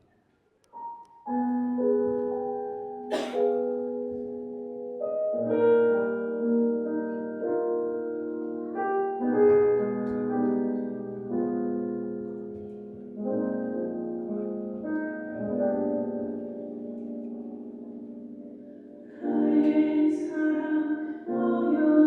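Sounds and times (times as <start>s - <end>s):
piano chords: 0.7s - 22.0s.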